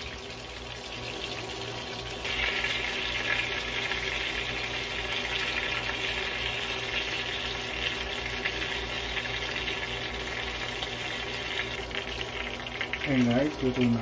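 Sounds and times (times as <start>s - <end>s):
spring rolls sizzling in oil: 0.0s - 14.0s.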